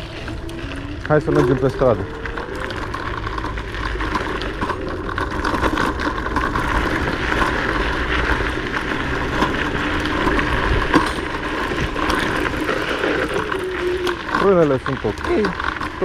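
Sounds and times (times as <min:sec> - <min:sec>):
electric scooter rolling: 0:00.0 - 0:16.0
suspension rattling and knocking: 0:00.0 - 0:16.0.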